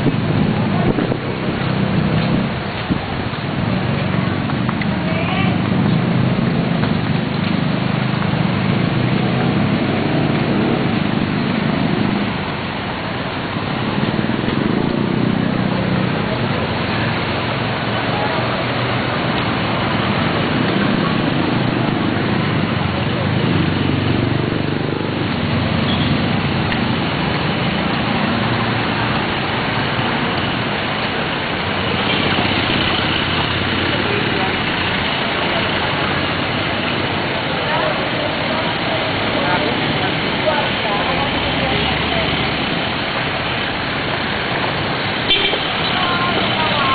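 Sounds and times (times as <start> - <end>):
street noise: 0.0 - 46.9.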